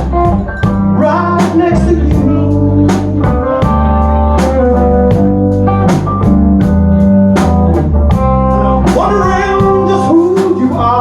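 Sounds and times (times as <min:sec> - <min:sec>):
drum kit with cymbals: 0:00.0 - 0:10.9
bass: 0:00.0 - 0:11.0
guitar notes: 0:00.0 - 0:11.0.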